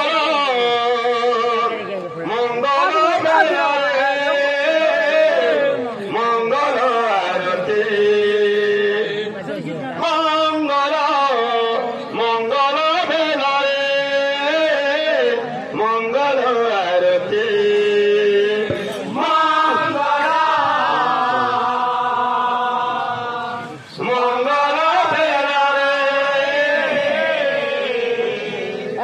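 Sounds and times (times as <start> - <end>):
man singing a devotional chant: 0.0 - 29.0.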